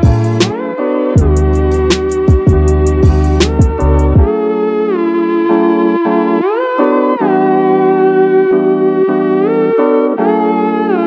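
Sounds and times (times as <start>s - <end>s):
gliding background melody: 0.0s - 11.0s.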